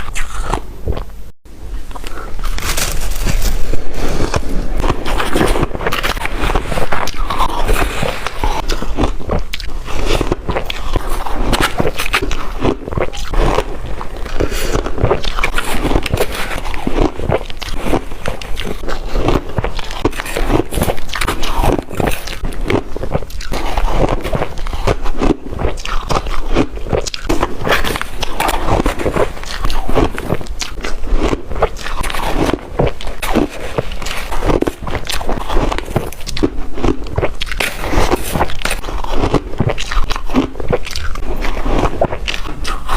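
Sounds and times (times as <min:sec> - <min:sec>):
person crunching ice: 0:02.4 - 0:42.9.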